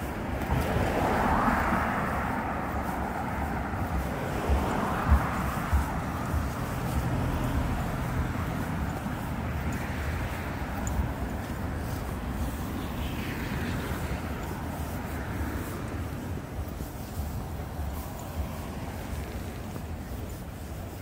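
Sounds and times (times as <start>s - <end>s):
road noise: 0.0s - 21.0s
vehicles passing: 0.0s - 21.0s.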